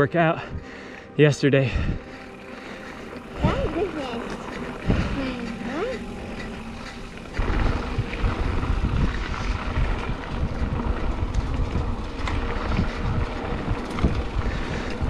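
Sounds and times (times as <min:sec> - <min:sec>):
wind buffeting microphone: 0:01.6 - 0:15.0
low tyre rumble: 0:01.7 - 0:15.0
bike rattles: 0:02.6 - 0:15.0.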